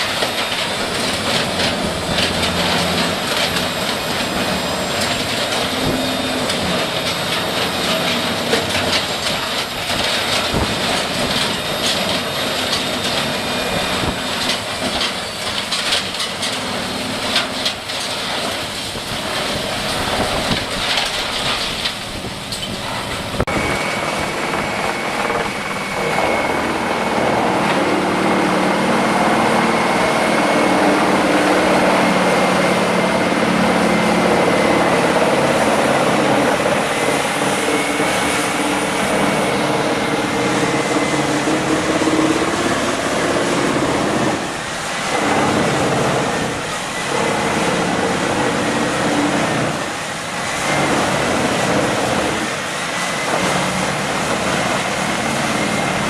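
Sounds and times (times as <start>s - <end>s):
engine with high whine: 0.0s - 56.0s
heavy machinery clattering: 0.0s - 56.0s.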